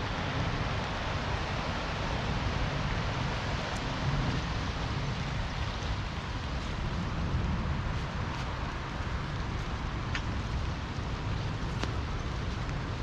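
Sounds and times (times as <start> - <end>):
rain and river water rushing: 0.0 - 13.0.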